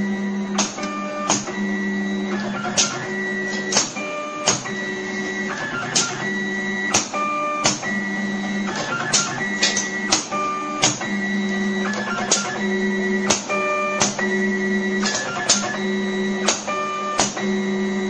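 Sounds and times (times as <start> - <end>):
machine motors humming: 0.0 - 18.0.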